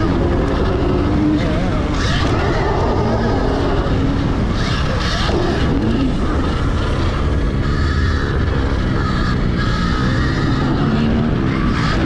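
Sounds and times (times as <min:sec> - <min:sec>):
dirt bike engines revving: 0:00.0 - 0:12.0
heavy rush of noise: 0:00.0 - 0:12.0.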